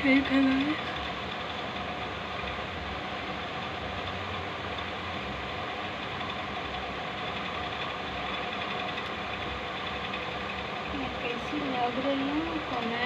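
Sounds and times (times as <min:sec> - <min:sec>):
faint steady tones: 0:00.0 - 0:13.0
steady machine hum: 0:00.0 - 0:13.0.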